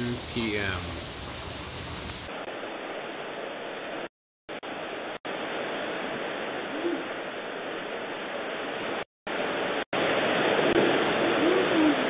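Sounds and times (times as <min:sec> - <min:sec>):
wind and heavy rain hiss: 0:00.0 - 0:12.0.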